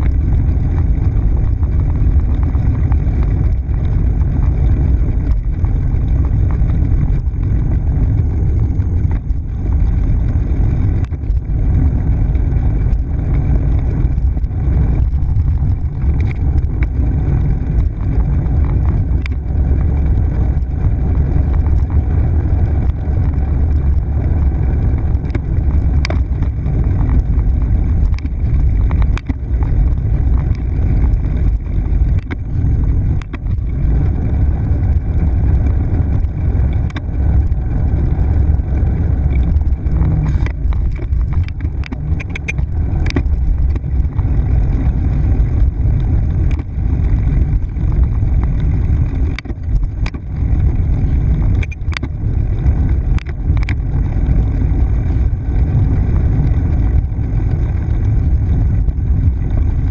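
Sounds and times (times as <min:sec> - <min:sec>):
bicycle tyre noise: 0:00.0 - 0:59.9
wind on microphone: 0:00.0 - 0:59.9.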